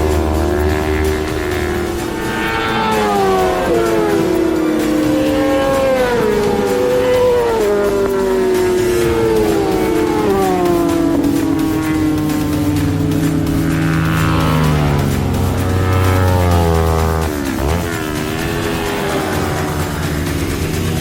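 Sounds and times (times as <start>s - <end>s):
sportbike engine running hard: 0.0s - 21.0s.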